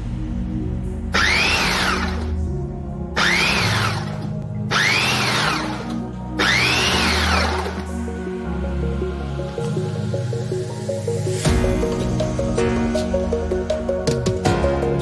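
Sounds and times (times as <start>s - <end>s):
electronic music low notes: 0.0s - 15.0s.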